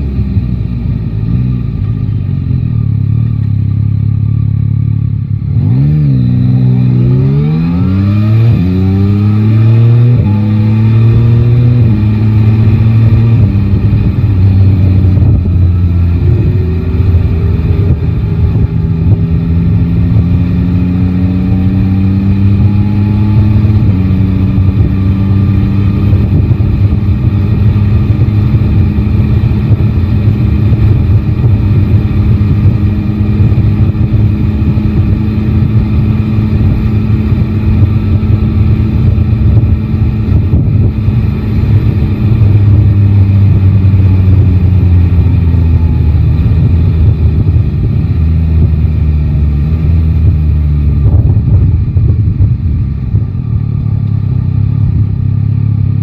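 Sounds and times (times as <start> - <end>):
motorcycle engine revving: 0.0 - 56.0
wind rumble on microphone: 5.5 - 56.0.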